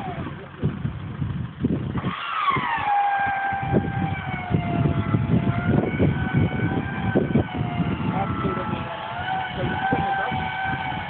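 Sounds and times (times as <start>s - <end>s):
high mechanical whine: 0.0s - 11.0s
rough low engine rumble: 0.0s - 11.0s.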